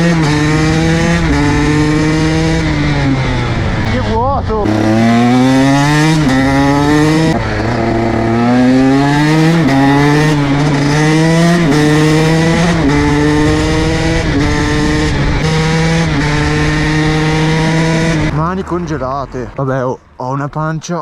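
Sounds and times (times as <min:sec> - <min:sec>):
dirt bike engine accelerating: 0:00.0 - 0:19.8.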